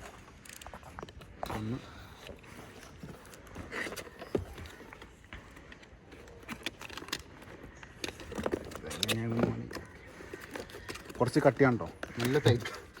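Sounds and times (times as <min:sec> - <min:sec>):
cardboard box rustling and clicking: 0:00.0 - 0:13.0.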